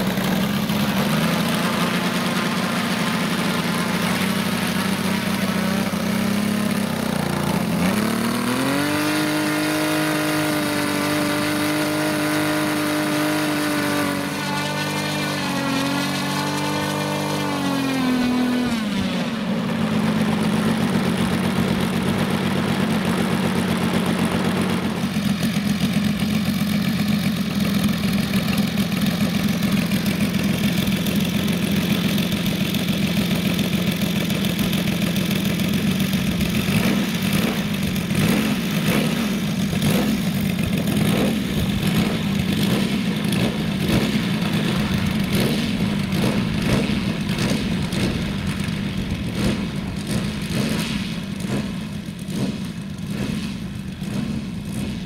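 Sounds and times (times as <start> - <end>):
model aircraft engine idling: 0.0 - 55.0.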